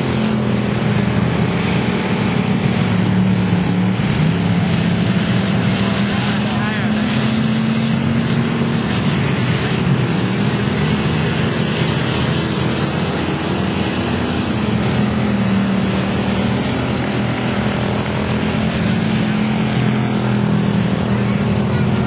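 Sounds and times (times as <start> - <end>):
race car engines droning: 0.0 - 22.0.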